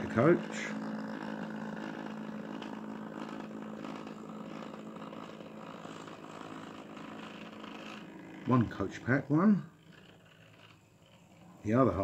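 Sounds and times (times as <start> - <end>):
model train motor hum: 0.0 - 12.0.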